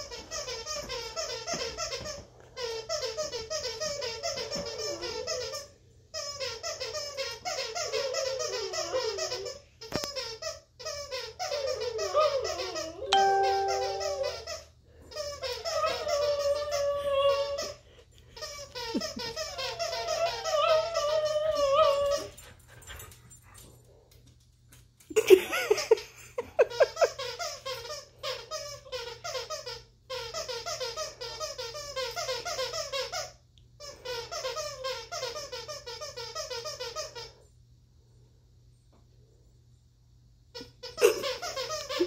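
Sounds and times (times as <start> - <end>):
squeaky dog toy being chewed: 0.0 - 22.4, 26.7 - 37.4, 40.5 - 42.0.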